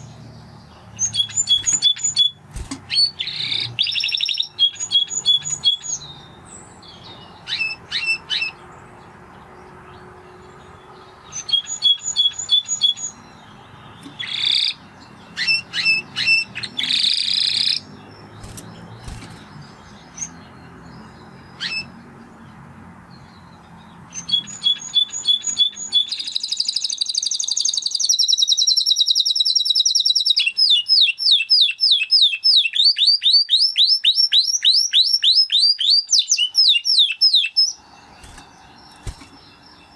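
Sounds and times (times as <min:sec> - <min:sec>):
canary singing: 0:00.0 - 0:22.2, 0:23.2 - 0:39.9.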